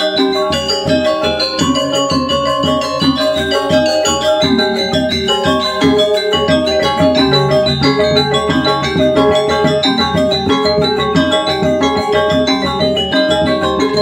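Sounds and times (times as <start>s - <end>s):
gamelan music with metallophones: 0.0s - 14.0s.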